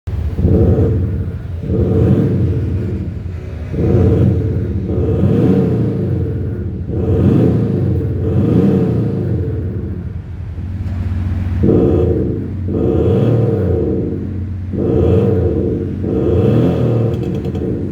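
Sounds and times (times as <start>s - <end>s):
diesel engine revving: 0.0s - 17.9s.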